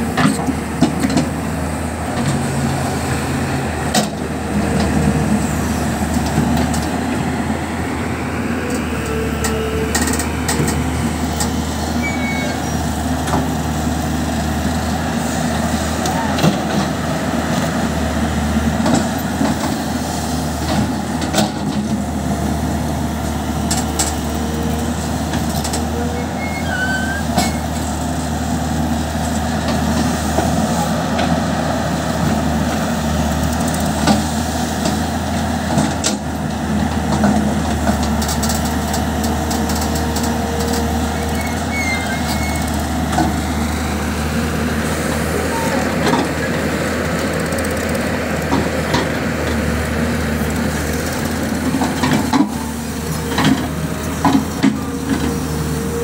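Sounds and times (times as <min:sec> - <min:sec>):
excavator diesel engine running: 0:00.0 - 0:56.0
tractor engines idling: 0:00.0 - 0:56.0.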